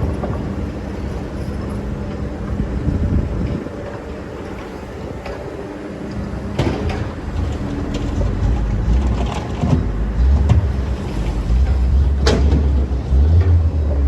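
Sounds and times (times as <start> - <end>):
excavator diesel engine drone: 0.0 - 14.0.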